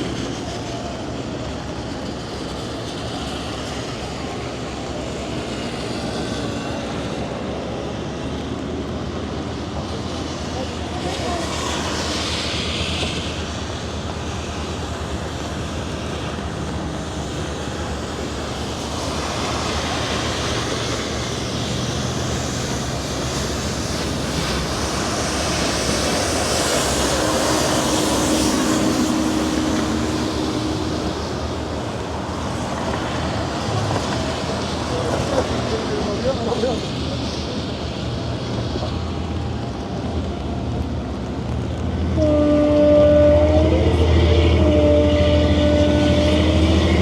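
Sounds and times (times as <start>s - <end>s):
noisy wash: 0.0s - 47.0s.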